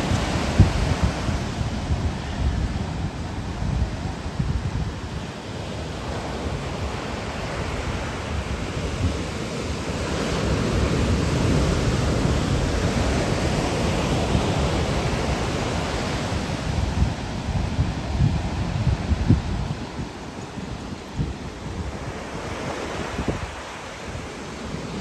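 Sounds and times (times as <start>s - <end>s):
ocean surf washing ashore: 0.0s - 25.0s
wind buffeting microphone: 0.0s - 25.0s.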